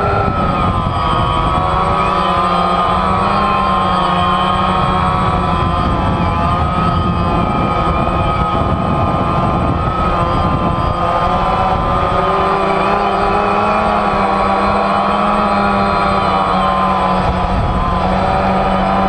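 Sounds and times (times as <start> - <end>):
drone propellers whirring: 0.0 - 19.0
wind rumble on microphone: 0.0 - 19.0.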